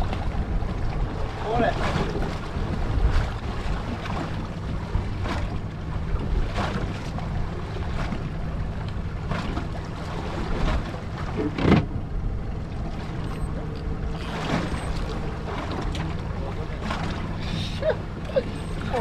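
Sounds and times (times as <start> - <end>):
low rumble of wind and water: 0.0 - 19.0
waves slapping against boat hull: 0.0 - 19.0.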